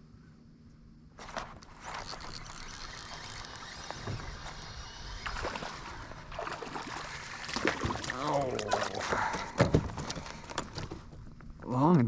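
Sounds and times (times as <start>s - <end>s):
low steady hum: 0.0s - 12.0s
water splashing and sloshing: 1.2s - 11.2s.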